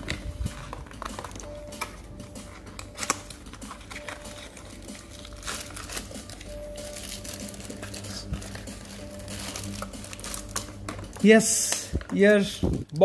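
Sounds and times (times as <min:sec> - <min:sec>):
plastic wrap crinkling: 0:00.0 - 0:01.8, 0:02.5 - 0:13.0
cardboard packaging handled: 0:00.0 - 0:13.0
faint background music: 0:00.0 - 0:13.0.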